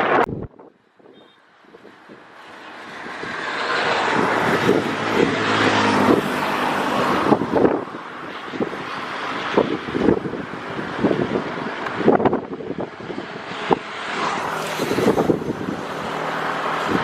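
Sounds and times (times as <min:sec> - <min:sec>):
vehicle passing by: 0:01.7 - 0:17.0.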